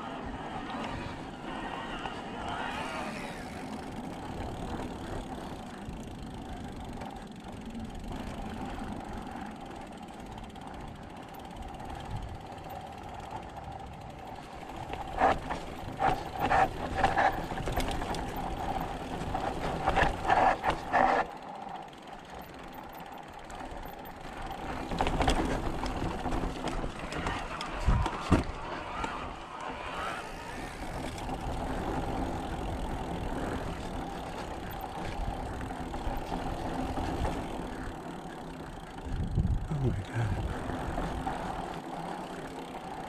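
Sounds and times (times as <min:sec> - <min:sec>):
bicycle freehub ratchet buzzing: 0:00.0 - 0:28.2, 0:29.2 - 0:43.0
low rumble of tyres: 0:00.0 - 0:43.0
wind: 0:00.0 - 0:43.0.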